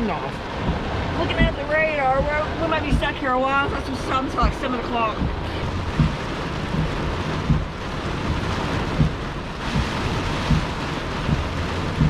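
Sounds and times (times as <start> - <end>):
gusting wind: 0.0 - 12.0
heavy rain on vehicle: 0.0 - 12.0
low thump: 0.6 - 3.2, 4.4 - 8.4, 9.0 - 12.0.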